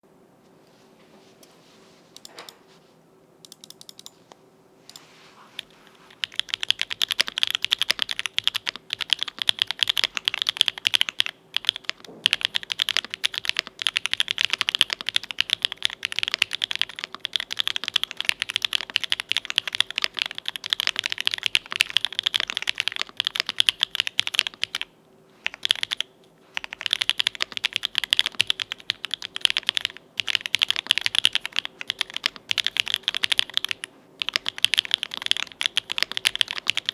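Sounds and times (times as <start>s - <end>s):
typing on mechanical keyboard: 3.5s - 4.1s, 5.6s - 36.9s.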